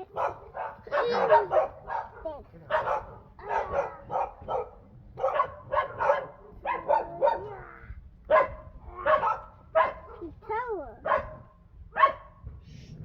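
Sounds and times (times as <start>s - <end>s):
dog barking high-pitched: 0.0s - 7.7s, 8.3s - 12.3s.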